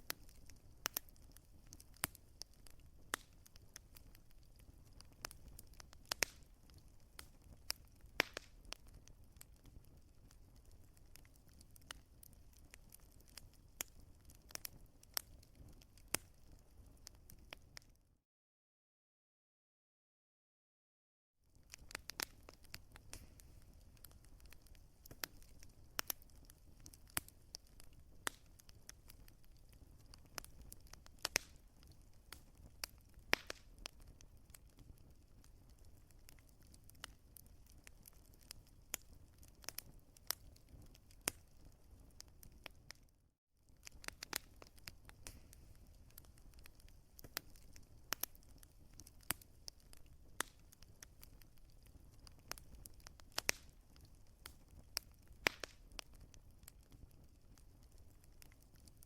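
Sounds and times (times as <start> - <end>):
wood fire crackling: 0.0 - 17.9, 21.5 - 59.0.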